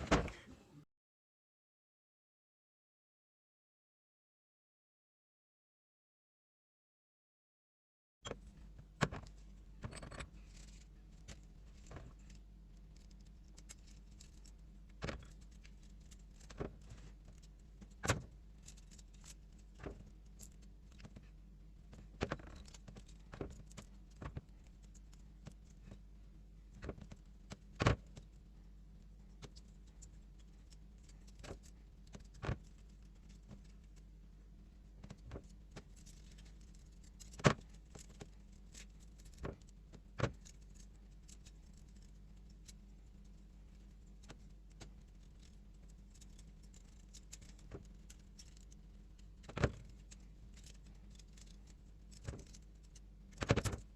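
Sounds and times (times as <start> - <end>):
faint steady hum: 8.3 - 53.9.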